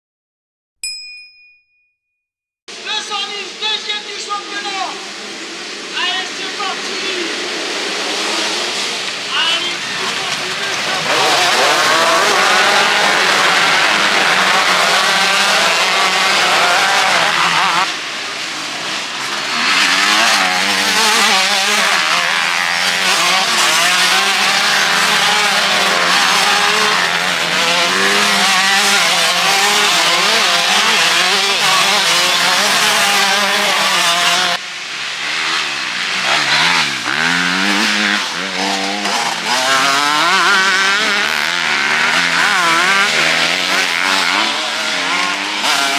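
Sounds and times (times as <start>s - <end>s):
motocross bikes revving: 2.7s - 45.9s.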